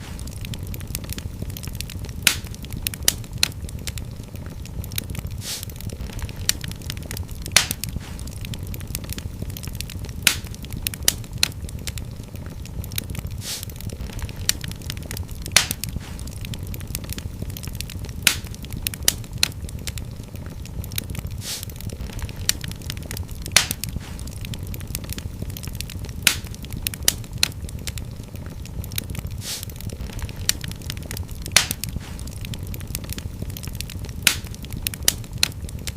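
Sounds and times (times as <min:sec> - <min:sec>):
loud fire pops: 0:00.0 - 0:35.9
low rumble of flames: 0:00.0 - 0:35.9
wood fire crackling: 0:00.0 - 0:35.9.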